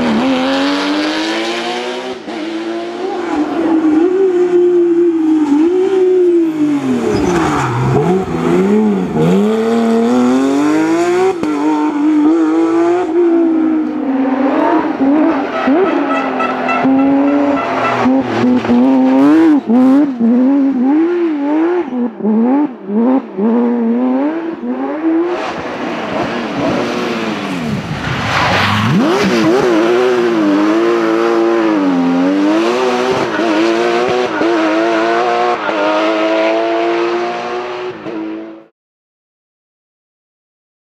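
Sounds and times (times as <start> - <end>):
rally car engines revving: 0.0 - 38.7.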